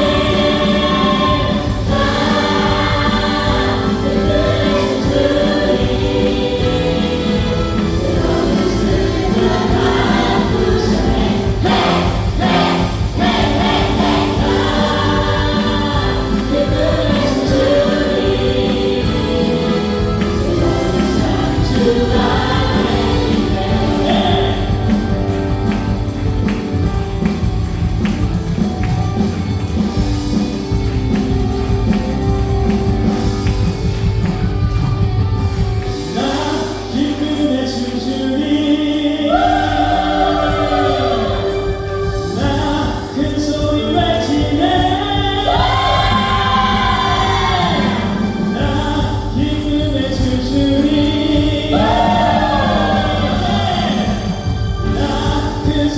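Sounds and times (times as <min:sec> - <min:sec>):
several voices singing: 0:00.0 - 0:32.5, 0:35.9 - 0:55.9
bass guitar: 0:00.0 - 0:55.9
drums: 0:00.0 - 0:55.9
keyboards: 0:00.0 - 0:55.9.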